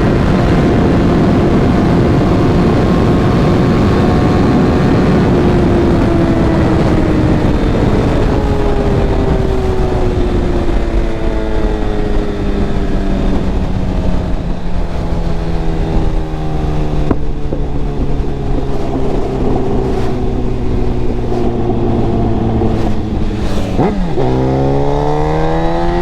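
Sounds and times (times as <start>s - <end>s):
motorcycle engine: 0.0s - 26.0s
wind noise: 0.0s - 26.0s.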